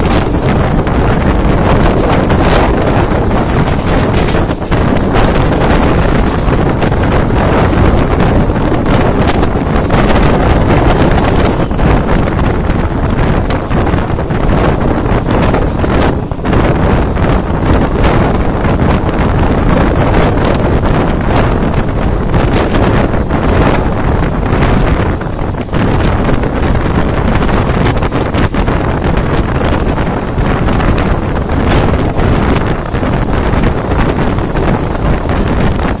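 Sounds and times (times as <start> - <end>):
train running on track: 0.0 - 36.0
wind buffeting microphone: 0.0 - 36.0.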